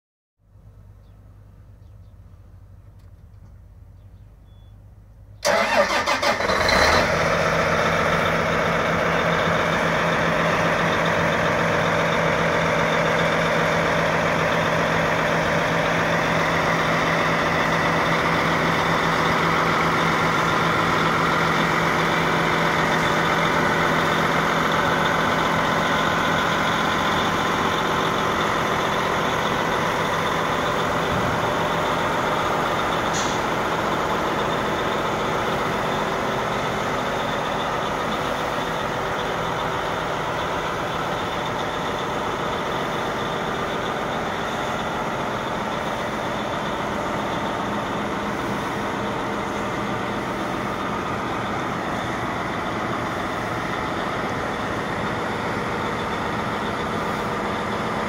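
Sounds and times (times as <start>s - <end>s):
diesel engine cranking and idling: 0.5s - 58.0s.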